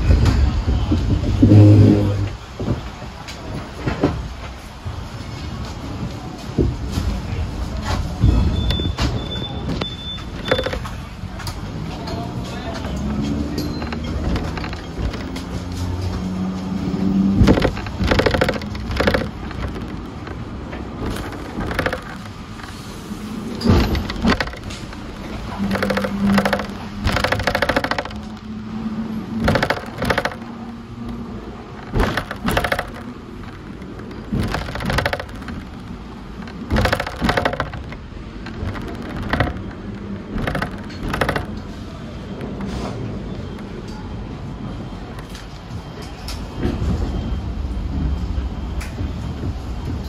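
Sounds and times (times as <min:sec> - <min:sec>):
tram rattling and clattering: 0:00.0 - 0:50.0
tram running noise: 0:00.0 - 0:50.0.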